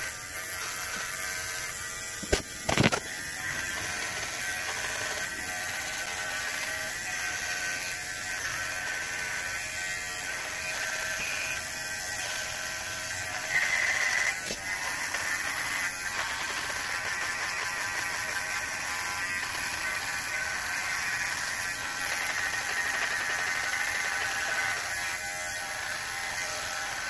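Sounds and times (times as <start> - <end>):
electric hair clippers buzzing: 0.0 - 27.0.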